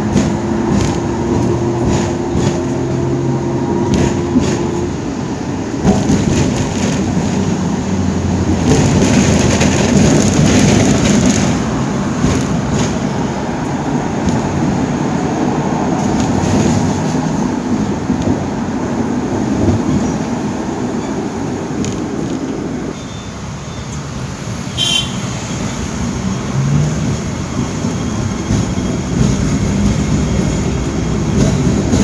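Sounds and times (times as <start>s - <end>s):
tram wheels rumbling on rails: 0.0s - 32.0s.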